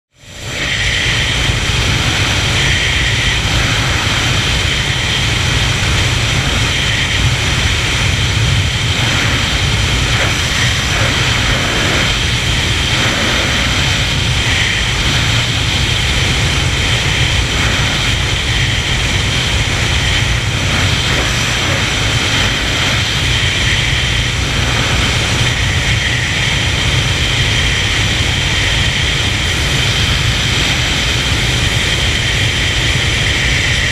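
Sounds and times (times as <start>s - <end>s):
faint high whine: 0.1s - 33.9s
wind and road noise: 0.1s - 33.9s
wind buffeting microphone: 0.3s - 33.9s.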